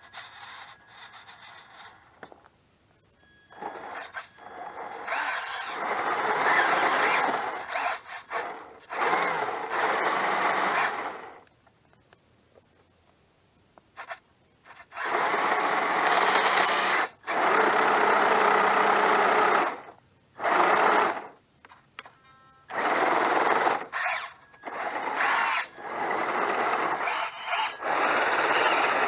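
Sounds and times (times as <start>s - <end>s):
toy truck motor whirring: 0.0s - 2.2s, 3.6s - 11.4s, 14.0s - 21.4s, 22.7s - 29.0s.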